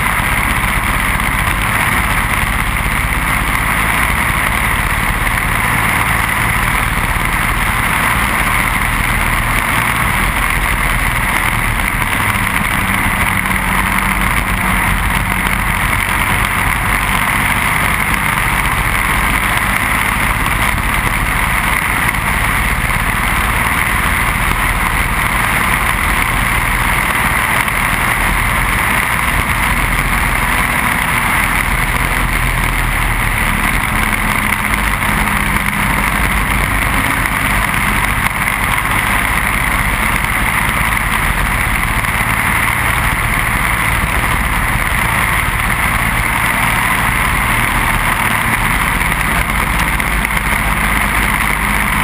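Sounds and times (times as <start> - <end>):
kart engine running at speed: 0.0 - 52.0
wind and road noise: 0.0 - 52.0.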